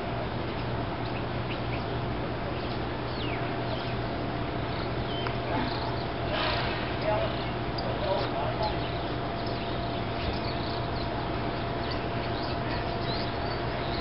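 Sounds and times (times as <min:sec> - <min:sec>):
faint bird calls: 0:02.5 - 0:14.0.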